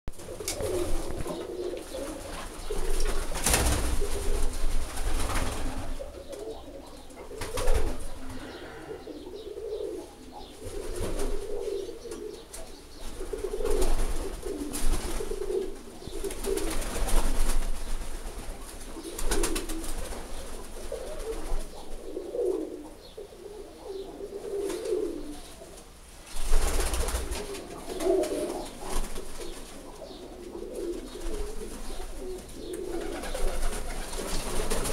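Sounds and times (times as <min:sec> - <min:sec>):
pigeons cooing: 0:00.2 - 0:34.9.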